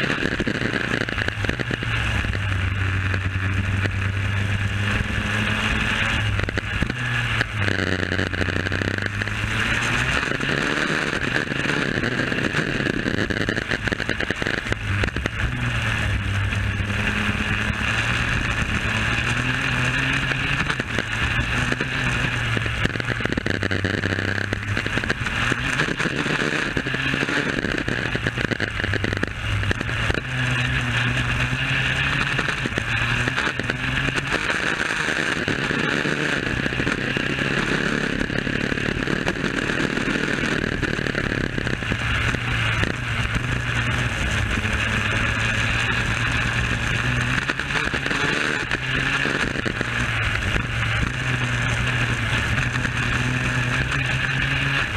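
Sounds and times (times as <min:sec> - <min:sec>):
two-stroke kart engine revving: 0:00.0 - 0:54.9.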